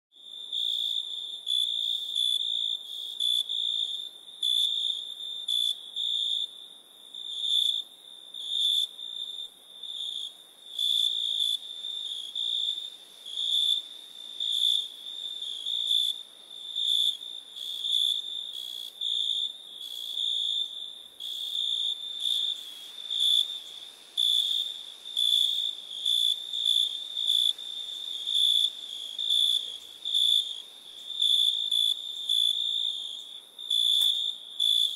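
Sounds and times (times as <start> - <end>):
insects trilling: 0.2 - 34.9.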